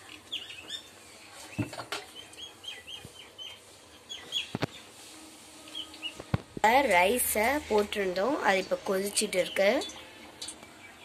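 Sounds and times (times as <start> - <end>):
small birds chirping: 0.0 - 5.0, 5.6 - 6.4, 7.2 - 11.0.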